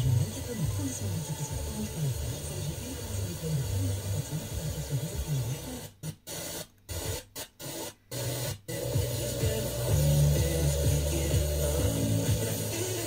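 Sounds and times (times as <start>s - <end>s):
faint radio broadcast audio: 0.0s - 13.0s
radio static hiss: 0.0s - 13.0s.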